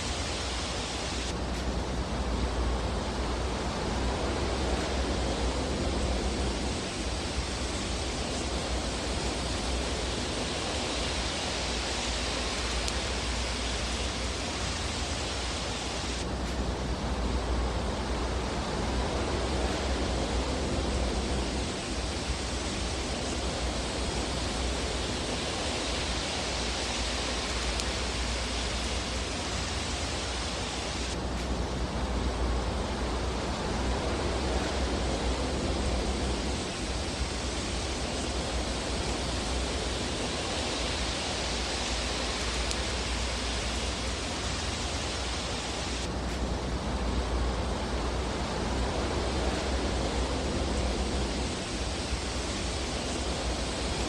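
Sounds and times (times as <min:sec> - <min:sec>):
fireplace hiss: 0:00.0 - 0:54.0.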